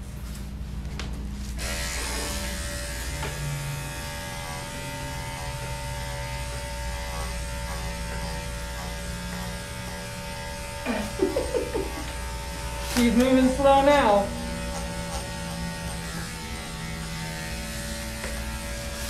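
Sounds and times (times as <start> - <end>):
electric dog clippers buzzing: 1.5 - 19.0.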